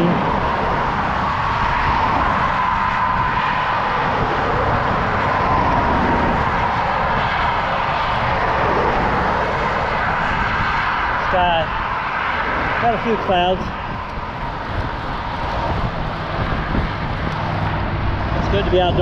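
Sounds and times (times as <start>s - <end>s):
motor traffic passing: 0.0s - 19.0s
wind rush on microphone: 0.0s - 19.0s.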